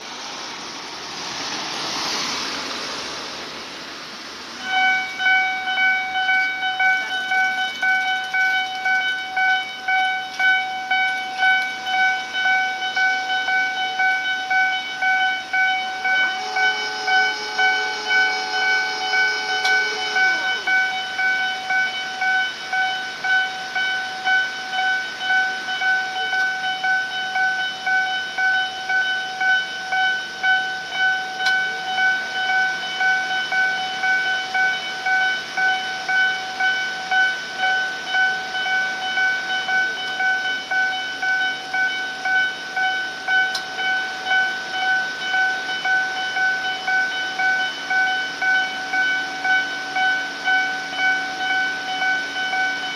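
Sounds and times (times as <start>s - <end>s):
level crossing alarm tone: 4.6s - 52.9s
second electronic tone: 4.6s - 52.9s.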